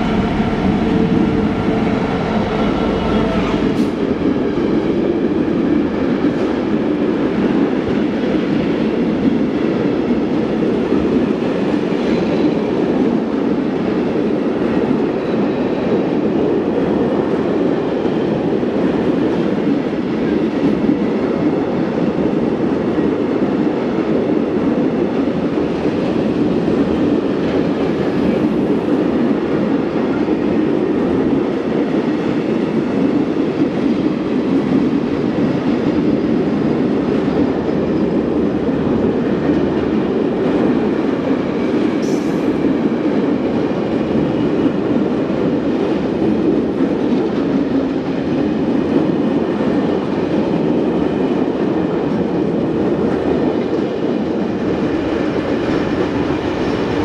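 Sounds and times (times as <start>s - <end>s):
train wheels rumbling and rattling: 0.0s - 57.0s.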